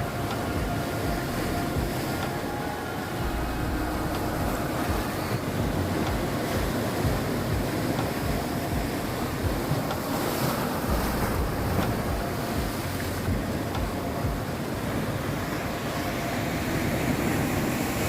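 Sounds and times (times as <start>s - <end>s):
waves breaking against rocks: 0.0s - 18.0s
wind buffeting microphone: 0.0s - 18.0s.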